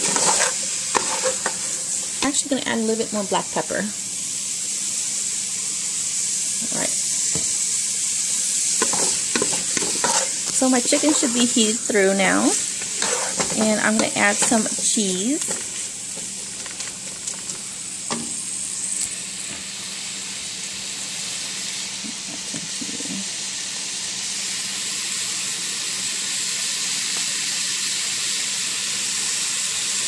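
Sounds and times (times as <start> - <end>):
chicken sizzling in frying pan: 0.0 - 30.0.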